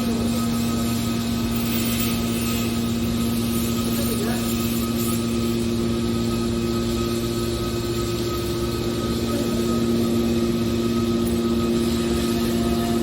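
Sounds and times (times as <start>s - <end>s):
constant whine: 0.0s - 13.0s
industrial machinery hum: 0.0s - 13.0s.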